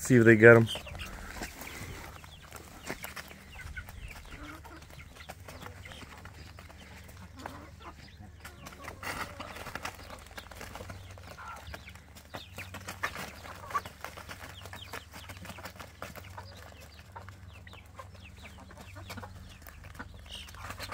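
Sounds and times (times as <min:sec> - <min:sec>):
hens clucking: 0:00.0 - 0:20.9.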